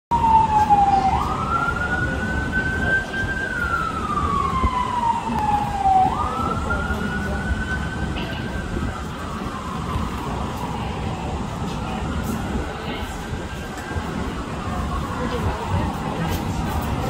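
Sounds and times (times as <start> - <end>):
emergency vehicle siren wailing: 0.1 - 17.0.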